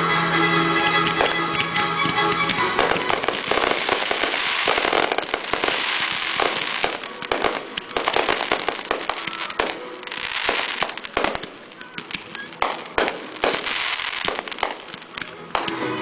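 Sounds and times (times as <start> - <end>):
fireworks crackling hiss: 0.0 - 16.0
fireworks bangs: 1.0 - 16.0.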